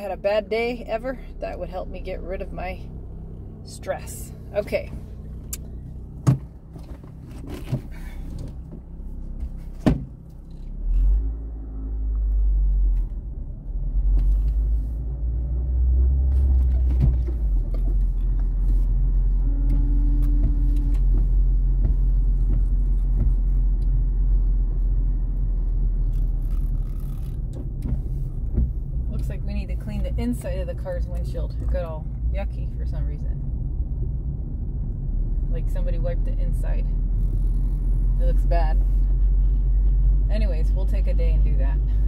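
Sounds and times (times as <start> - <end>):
car engine rumbling: 0.0 - 42.0.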